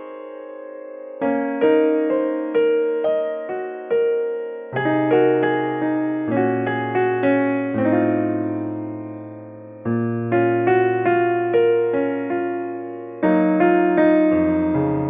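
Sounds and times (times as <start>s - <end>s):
gentle keyboard music: 0.0s - 15.0s.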